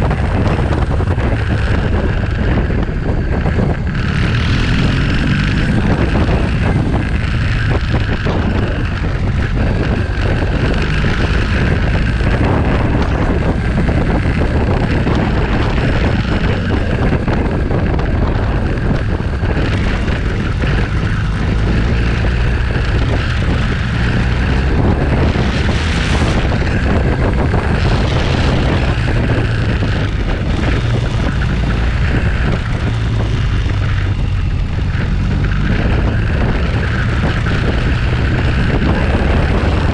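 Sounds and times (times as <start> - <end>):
motorcycle engine drone: 0.0 - 39.9
road noise: 0.0 - 39.9
wind buffeting microphone: 0.0 - 39.9.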